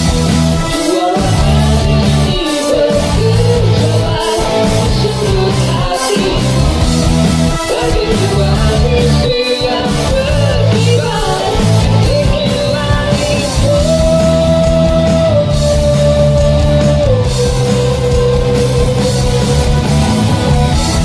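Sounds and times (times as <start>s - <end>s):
rock music with guitar: 0.0s - 21.0s.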